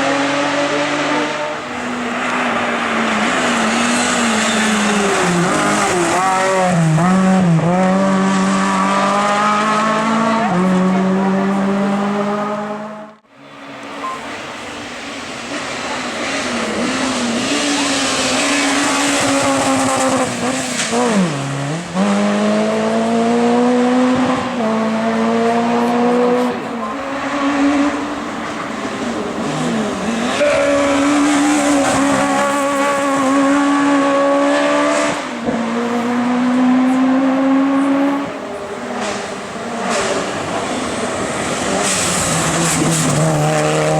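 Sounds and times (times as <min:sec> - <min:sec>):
racing car engine accelerating: 0:00.0 - 0:43.9.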